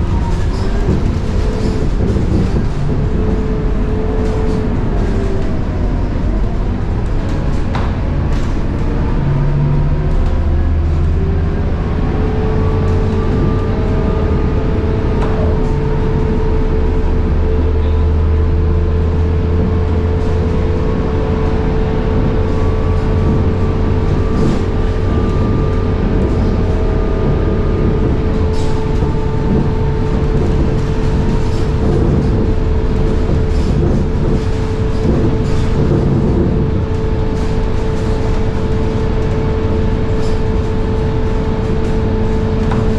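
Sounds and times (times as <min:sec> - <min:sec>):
diesel engine drone: 0:00.0 - 0:42.9.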